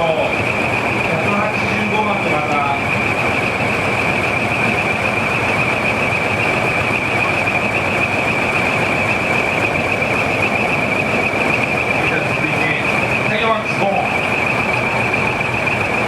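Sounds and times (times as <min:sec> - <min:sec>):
steady high-pitched tone: 0:00.0 - 0:16.0
truck engines running: 0:00.0 - 0:16.0.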